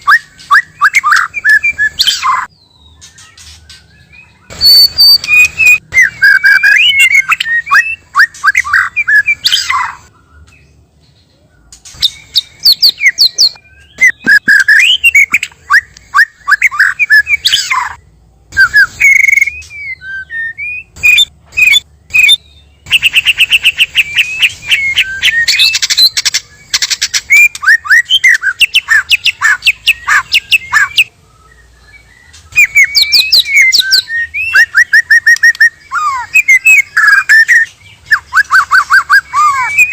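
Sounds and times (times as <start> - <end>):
songbird whistling and chipping: 0.0 - 10.7, 11.9 - 39.9.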